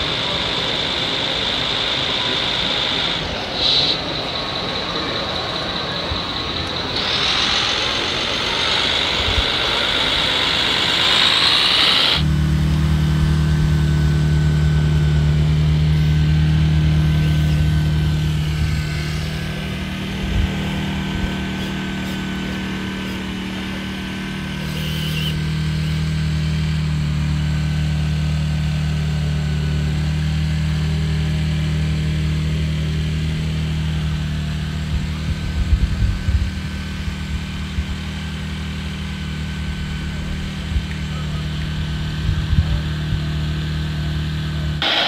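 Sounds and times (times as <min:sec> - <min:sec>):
model truck engine drone: 0:00.0 - 0:45.0.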